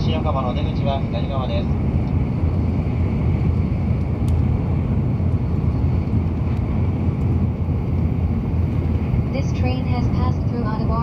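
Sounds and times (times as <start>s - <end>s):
high-speed train rumble inside cabin: 0.0s - 11.0s.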